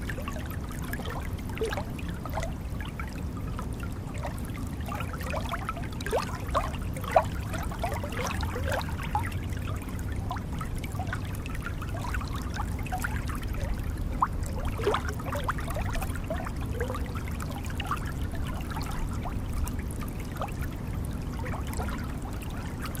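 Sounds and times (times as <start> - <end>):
stream gurgling over stones: 0.0 - 23.0.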